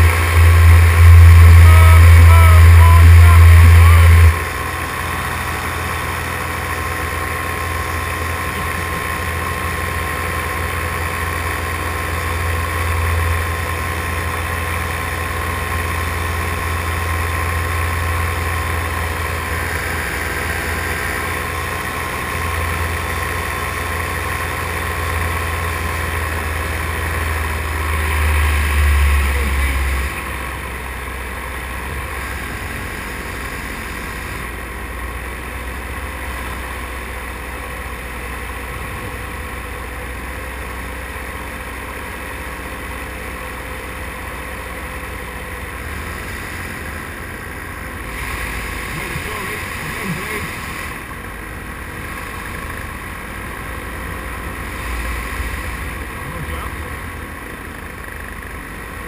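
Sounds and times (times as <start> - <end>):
paramotor engine and propeller: 0.0 - 59.0.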